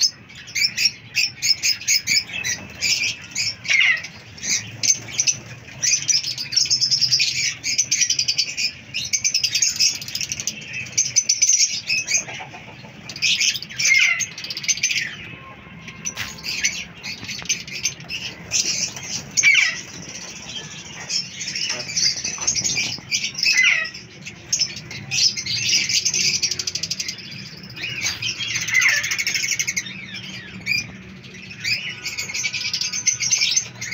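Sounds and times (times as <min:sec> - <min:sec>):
lovebirds chirping: 0:00.0 - 0:33.9.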